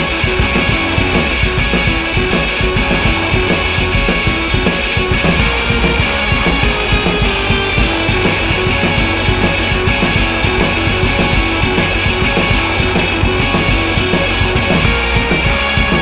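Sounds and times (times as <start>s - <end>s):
distorted electric guitar: 0.0s - 16.0s
rock drums: 0.0s - 16.0s.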